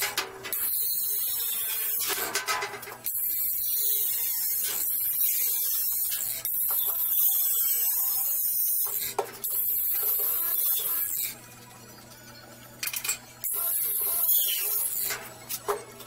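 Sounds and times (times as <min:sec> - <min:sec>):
angle grinder cutting metal: 0:00.0 - 0:02.4, 0:03.0 - 0:11.4, 0:13.4 - 0:15.8.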